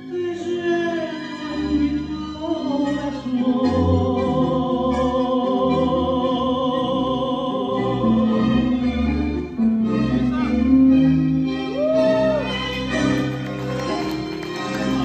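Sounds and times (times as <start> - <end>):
tango melody with vibrato: 0.0 - 15.0.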